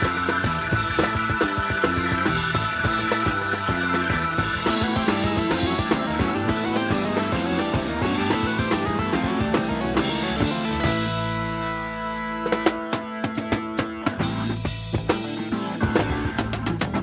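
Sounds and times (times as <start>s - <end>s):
drum kit playing: 0.0s - 17.0s
electric guitar rock music: 0.0s - 17.0s.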